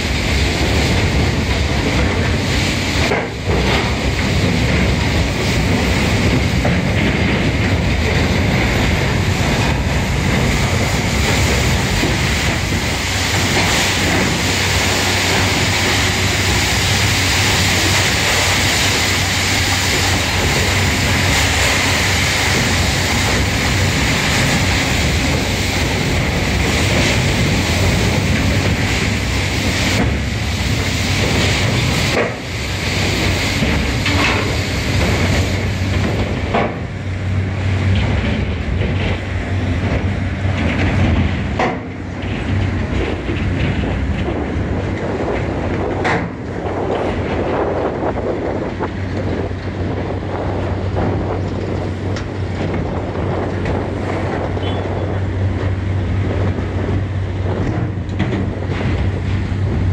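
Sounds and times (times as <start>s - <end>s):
hydraulic brush machine running: 0.0s - 59.9s.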